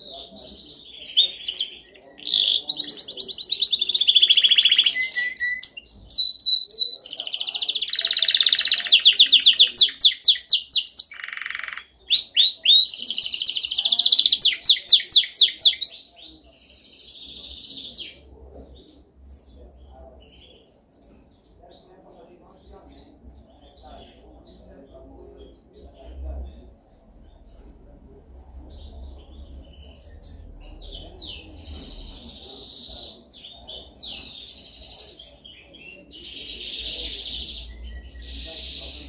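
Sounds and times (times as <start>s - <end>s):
canary singing trills: 0.0s - 27.7s, 28.6s - 39.0s.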